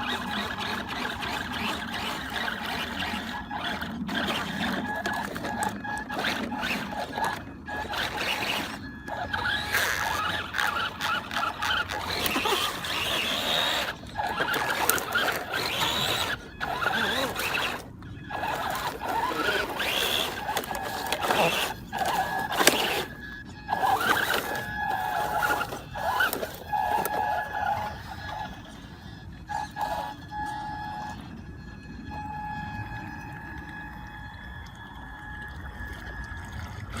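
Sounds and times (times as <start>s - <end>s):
drivetrain and tyre noise: 0.0s - 31.4s
electric motor whining: 0.0s - 37.0s.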